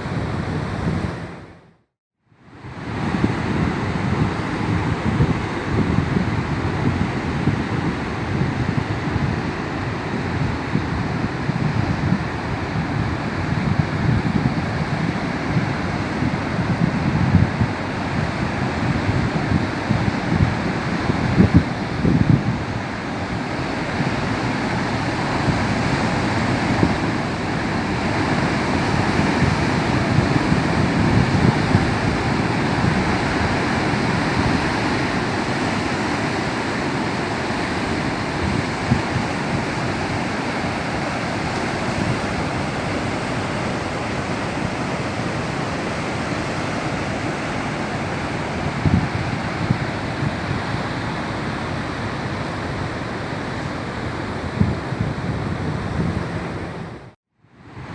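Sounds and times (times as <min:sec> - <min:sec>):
wind buffeting microphone: 0:00.0 - 0:01.6, 0:02.6 - 0:57.2
waves breaking against coast: 0:00.0 - 0:01.7, 0:02.4 - 0:57.9.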